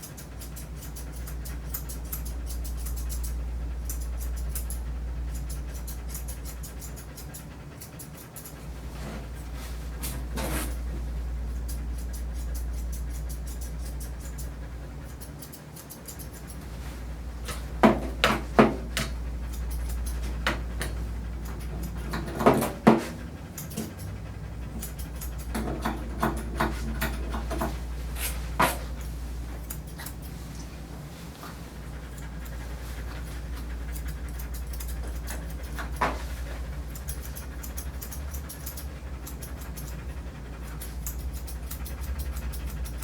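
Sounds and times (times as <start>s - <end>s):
dog panting: 0.0s - 43.0s.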